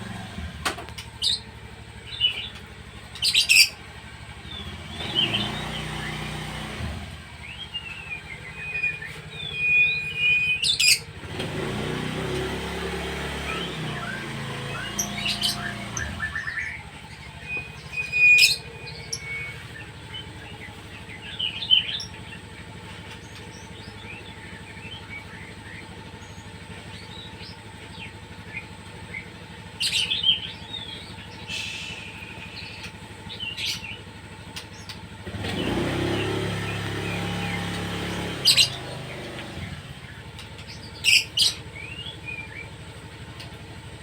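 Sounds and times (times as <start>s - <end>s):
pet birds chirping: 0.0s - 44.0s.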